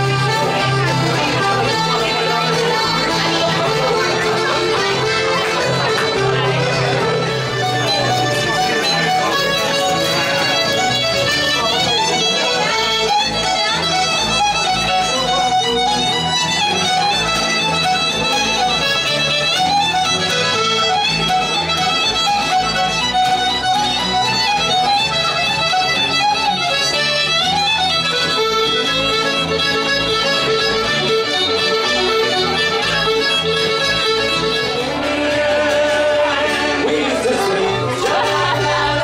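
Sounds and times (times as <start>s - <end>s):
fiddle playing a tune: 0.0s - 39.0s
piano accordion: 0.0s - 39.0s
strummed acoustic guitar: 0.0s - 39.0s.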